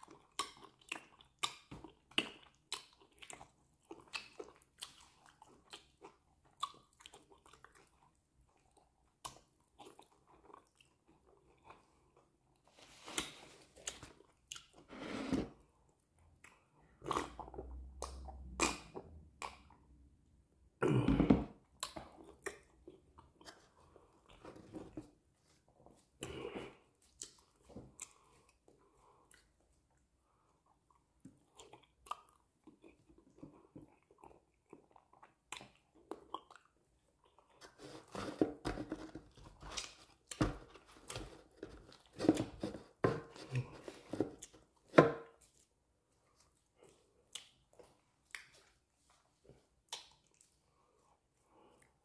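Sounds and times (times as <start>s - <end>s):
person chewing and eating: 0.0s - 20.1s, 20.8s - 52.0s.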